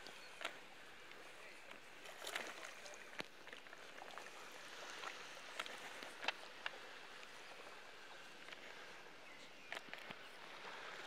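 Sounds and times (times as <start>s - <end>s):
faint water wash: 0.0s - 11.0s.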